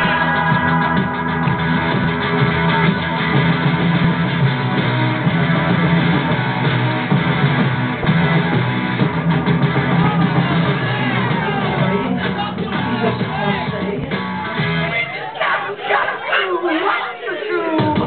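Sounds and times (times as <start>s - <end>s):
band with strummed guitars: 0.0s - 16.3s.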